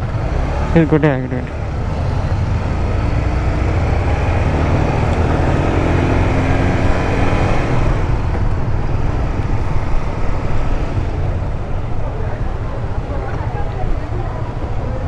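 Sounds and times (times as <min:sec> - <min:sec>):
motorcycle engine and road noise: 0:00.0 - 0:15.0.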